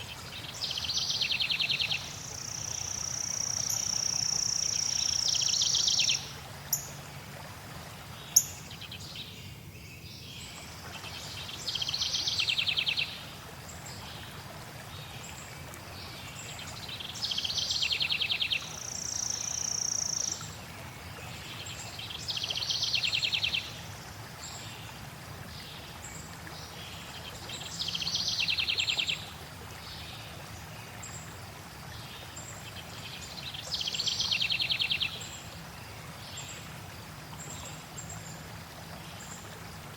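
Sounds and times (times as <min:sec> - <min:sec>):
flowing water hiss: 0:00.0 - 0:39.9.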